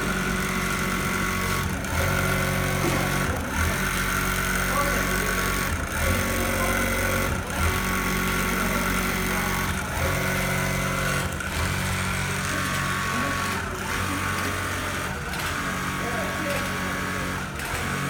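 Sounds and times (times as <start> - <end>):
industrial sewing machine running: 0.0 - 18.0.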